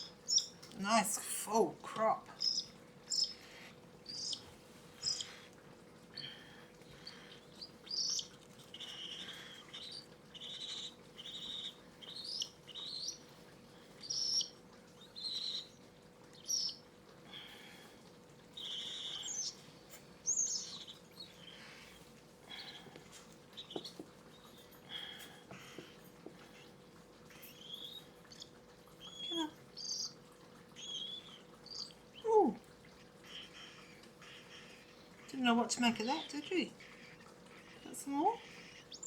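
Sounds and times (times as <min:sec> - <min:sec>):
chicks chirping and squawking: 0:00.0 - 0:00.6, 0:02.3 - 0:05.5, 0:06.2 - 0:15.8, 0:16.4 - 0:17.6, 0:18.5 - 0:32.2, 0:32.8 - 0:35.3, 0:35.9 - 0:39.0.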